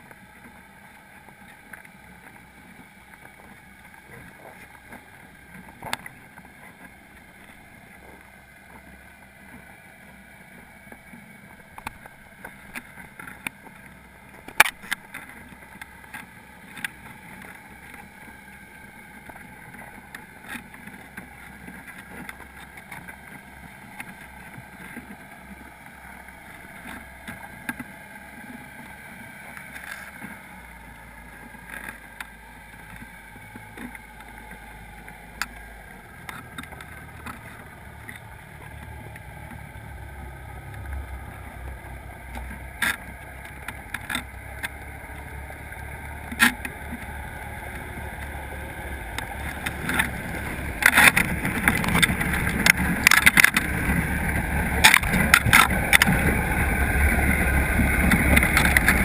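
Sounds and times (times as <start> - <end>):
muffled underwater hiss: 0.0 - 59.0.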